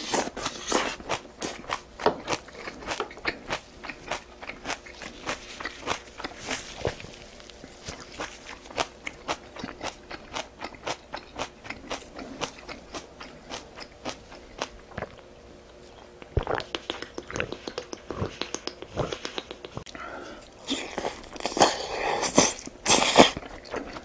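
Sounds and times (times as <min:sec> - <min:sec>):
chewing and crunching: 0:00.0 - 0:24.0.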